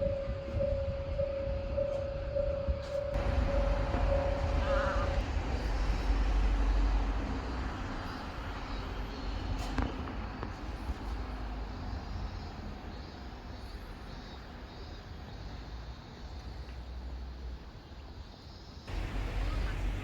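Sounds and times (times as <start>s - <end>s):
diesel train engine rumbling: 0.0s - 20.0s.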